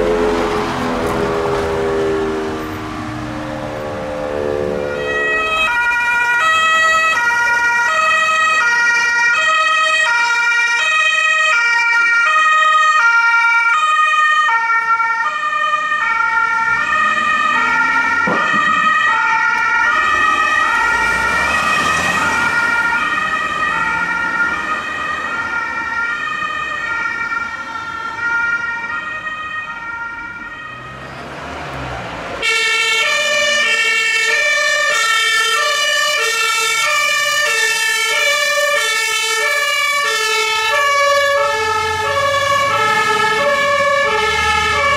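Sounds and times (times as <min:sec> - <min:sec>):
two-tone emergency vehicle horn: 0:00.0 - 0:31.0, 0:32.4 - 0:44.9.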